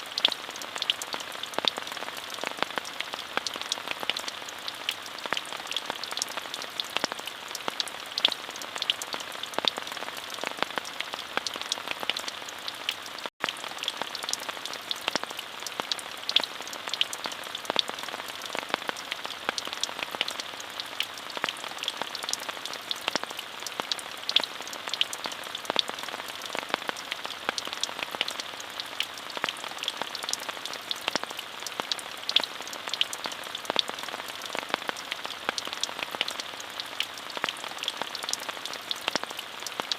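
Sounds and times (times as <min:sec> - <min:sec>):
steady rain with drop ticks: 0:00.0 - 0:39.9.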